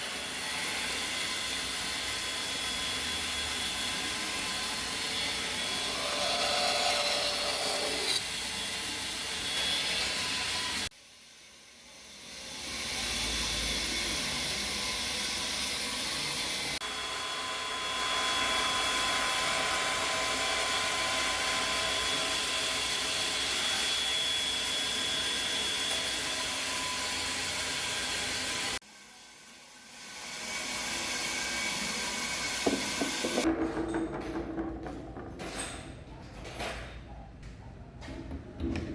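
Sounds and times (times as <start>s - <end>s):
electric drill motor whine: 0.0s - 33.5s.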